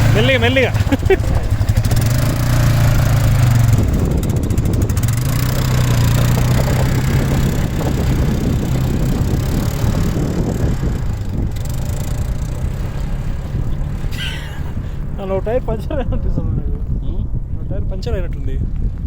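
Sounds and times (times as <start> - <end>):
atv engine rumbling: 0.0 - 19.0.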